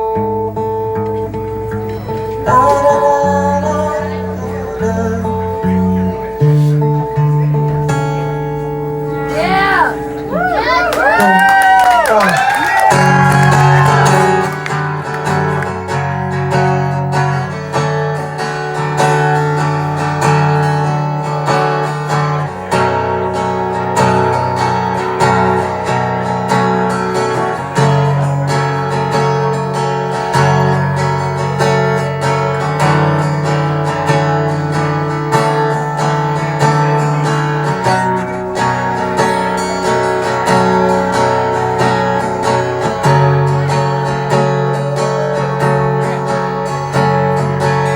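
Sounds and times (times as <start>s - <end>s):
acoustic guitar strumming: 0.0s - 47.9s.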